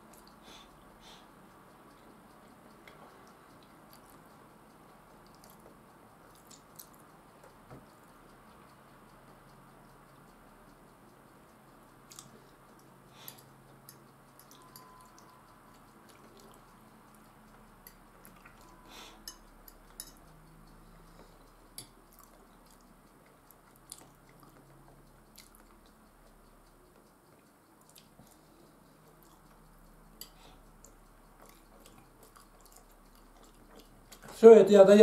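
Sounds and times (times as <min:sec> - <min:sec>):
quiet chewing: 0:00.0 - 0:34.4.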